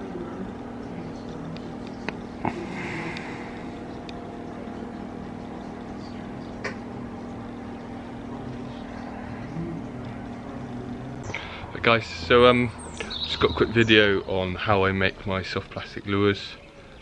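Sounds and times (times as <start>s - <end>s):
steady low drone: 0.0s - 17.0s.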